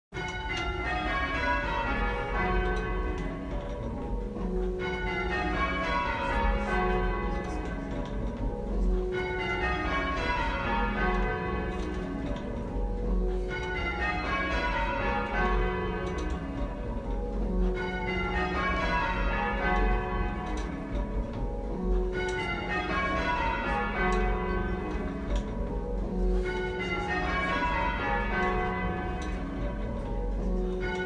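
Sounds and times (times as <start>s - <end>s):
half-muffled church bells ringing: 0.1s - 31.0s.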